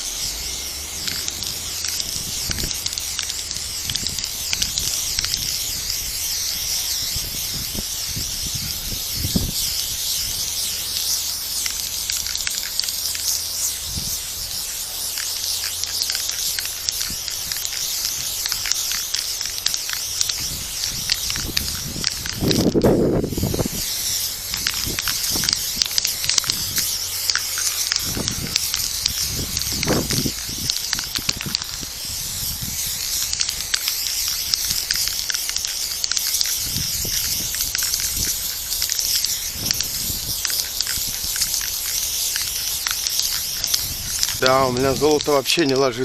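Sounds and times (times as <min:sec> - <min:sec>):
aerosol spray can hissing: 0:00.0 - 0:46.0.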